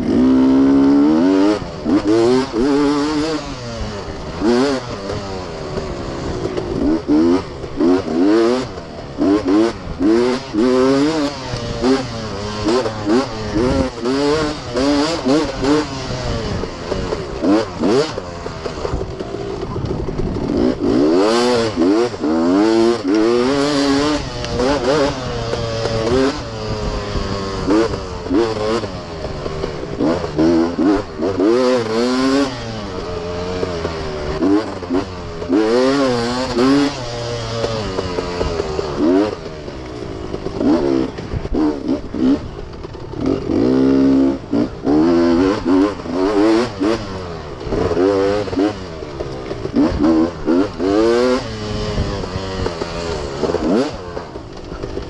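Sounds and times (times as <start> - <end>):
chassis clattering over bumps: 0.0 - 55.0
dirt bike engine revving: 0.0 - 55.0.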